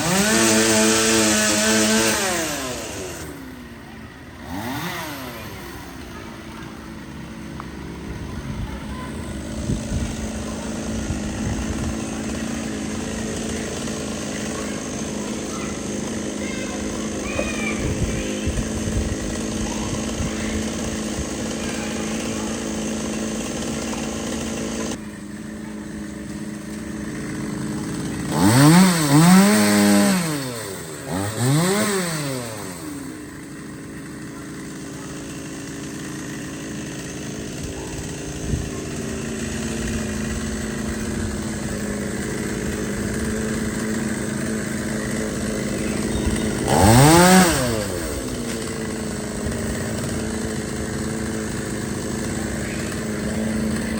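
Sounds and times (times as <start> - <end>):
chainsaw engine idling and revving: 0.0 - 53.9.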